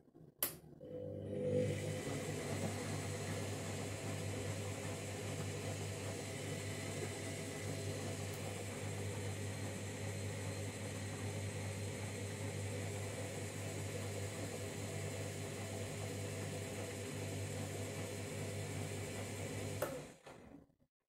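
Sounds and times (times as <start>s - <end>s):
washing machine hum and hiss: 1.4s - 20.3s.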